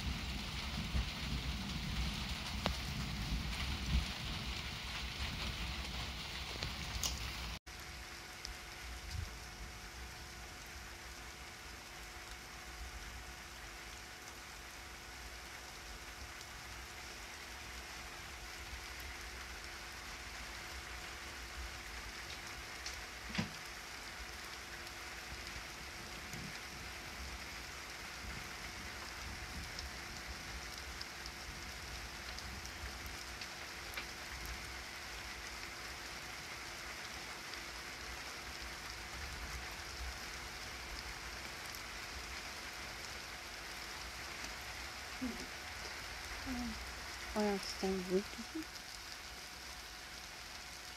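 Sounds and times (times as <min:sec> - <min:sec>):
light rain falling: 0:00.0 - 0:50.9.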